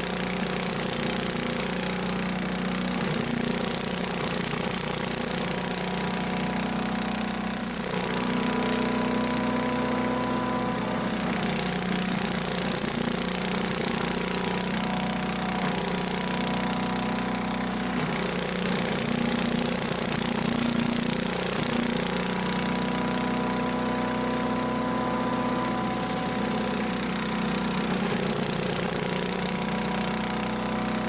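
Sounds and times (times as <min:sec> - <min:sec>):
chipper shredder engine running: 0:00.0 - 0:31.0
shredder rushing noise: 0:00.0 - 0:31.0.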